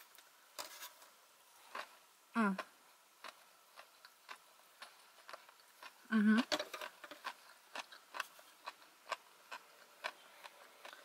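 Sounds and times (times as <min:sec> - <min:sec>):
person chewing: 0:01.6 - 0:11.0.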